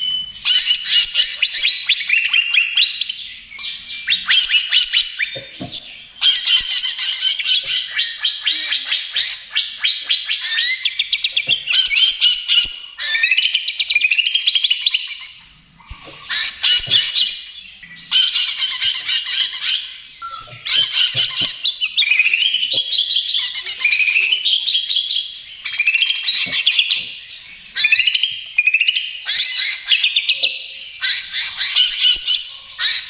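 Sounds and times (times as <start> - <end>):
bird singing chattering trills: 0.0 - 33.0.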